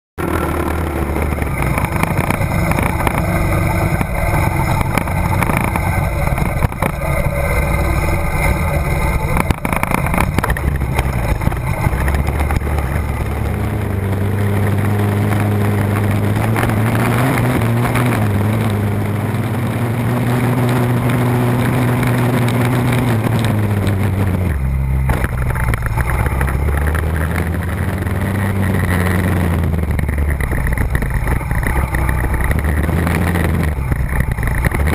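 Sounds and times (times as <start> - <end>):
rattle on rough dirt trail: 0.2 - 34.9
small atv engine revving: 0.2 - 34.9.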